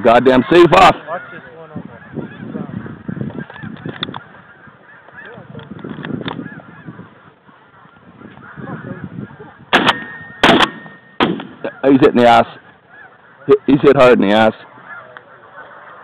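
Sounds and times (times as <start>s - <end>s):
geese honking: 0.1s - 16.0s.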